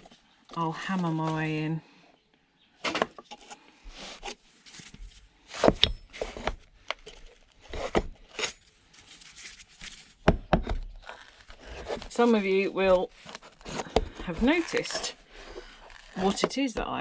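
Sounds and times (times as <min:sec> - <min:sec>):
wooden box scraping open: 0:02.8 - 0:17.0.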